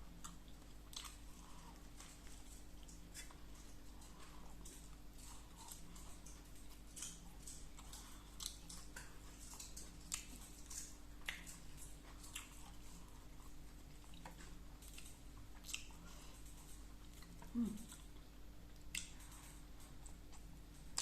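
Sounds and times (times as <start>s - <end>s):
faint steady hum: 0.0s - 21.0s
person chewing with mouth smacks: 0.1s - 21.0s.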